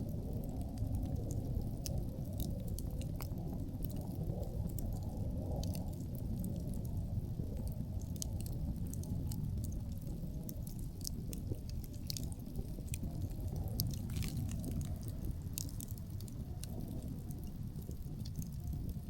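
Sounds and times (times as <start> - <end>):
campfire crackling and popping: 0.0 - 19.0
wind rumbling: 0.0 - 19.0.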